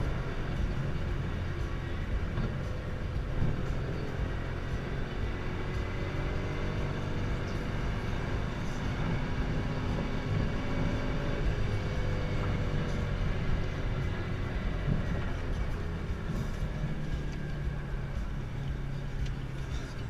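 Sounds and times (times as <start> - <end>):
car engine drone from inside: 0.0 - 20.0.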